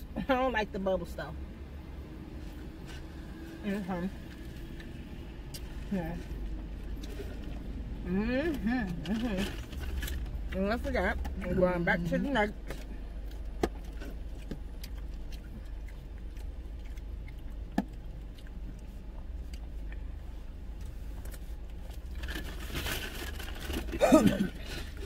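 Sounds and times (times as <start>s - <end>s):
car cabin hum: 2.4s - 25.0s.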